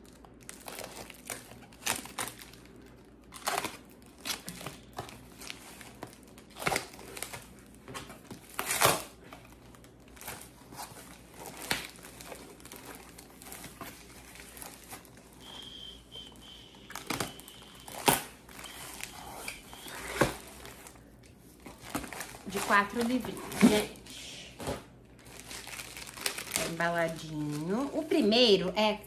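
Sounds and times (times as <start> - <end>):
packaging crinkling and tearing: 0.0 - 15.9, 16.8 - 28.3.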